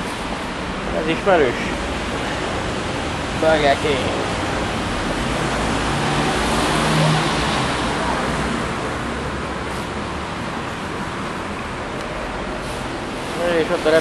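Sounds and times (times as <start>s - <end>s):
city street traffic: 0.0s - 14.0s
vehicle engine passing: 1.4s - 14.0s.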